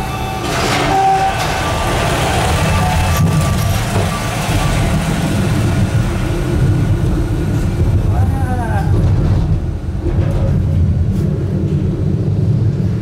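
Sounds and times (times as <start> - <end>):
cabin low rumble: 0.0 - 13.0.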